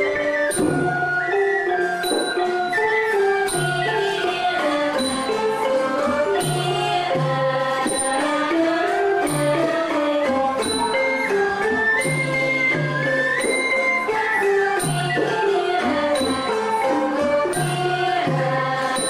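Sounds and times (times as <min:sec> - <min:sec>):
drum strokes: 0:00.0 - 0:19.0
folk dance melody: 0:00.0 - 0:19.0.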